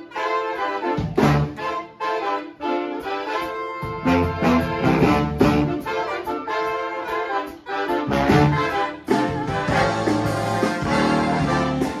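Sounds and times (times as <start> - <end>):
big band playing swing jazz: 0.0 - 12.0.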